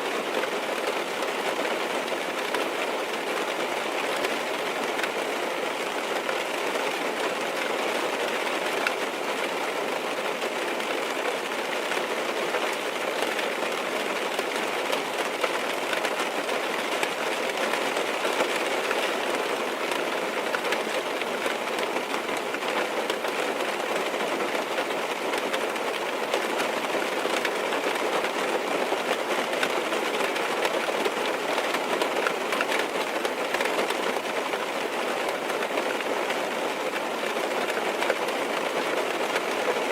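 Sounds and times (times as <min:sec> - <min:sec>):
rain tapping on car roof: 0:00.1 - 0:39.9.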